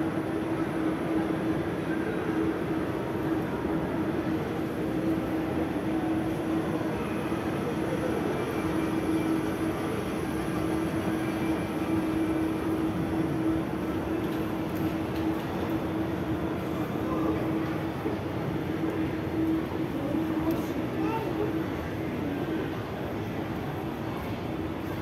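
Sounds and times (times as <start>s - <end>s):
constant low hum: 0.0s - 25.0s
shopping mall background noise: 0.0s - 25.0s.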